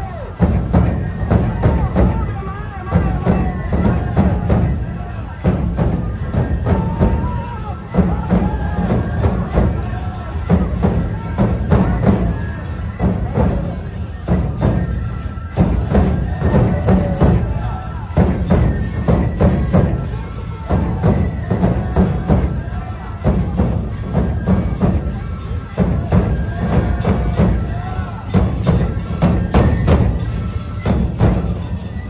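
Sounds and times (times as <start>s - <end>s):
bamboo flutes playing melody: 0.0s - 32.0s
hand cymbals clashing: 0.0s - 32.0s
large taiko drums beating: 0.1s - 32.0s.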